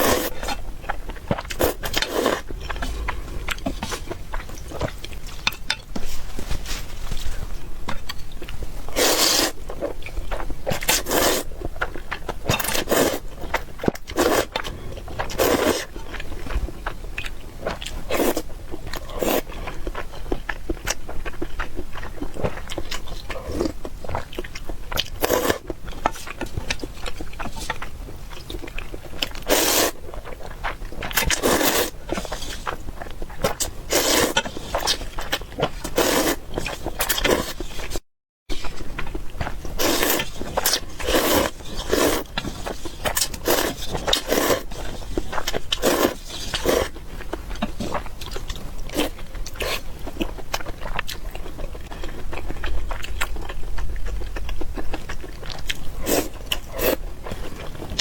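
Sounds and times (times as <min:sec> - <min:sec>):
biting and chewing: 0:00.0 - 0:06.0, 0:07.9 - 0:58.0.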